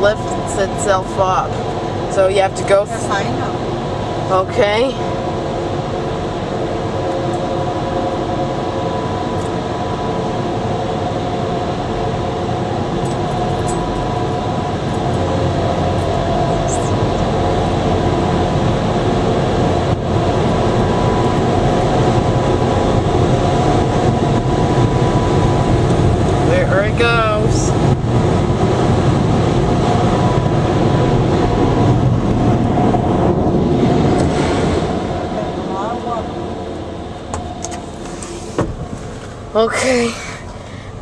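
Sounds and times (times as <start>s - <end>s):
constant fan hum: 0.0s - 41.0s
dryer blowers rushing air: 0.0s - 41.0s.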